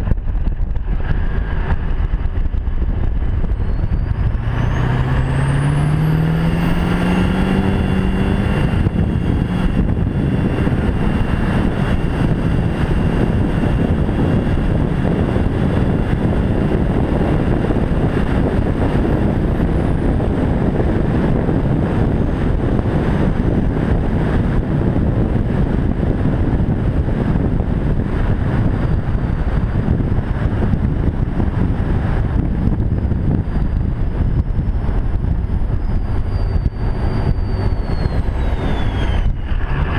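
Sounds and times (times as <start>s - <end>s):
diesel truck exhaust accelerating: 0.0s - 39.9s
road and wind noise: 0.0s - 39.9s.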